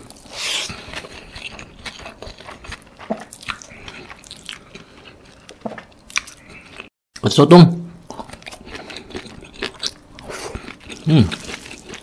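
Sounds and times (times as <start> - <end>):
person chewing noodles: 0.0 - 6.9, 8.0 - 12.0.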